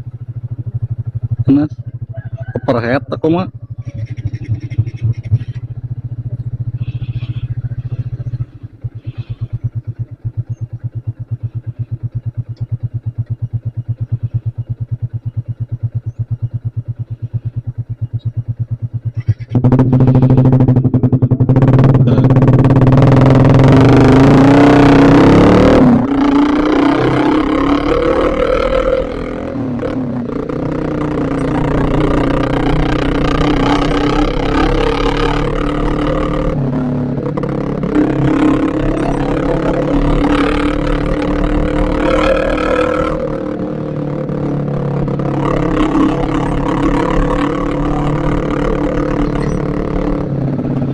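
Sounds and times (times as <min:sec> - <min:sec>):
motorcycle engine: 0:00.0 - 0:50.9.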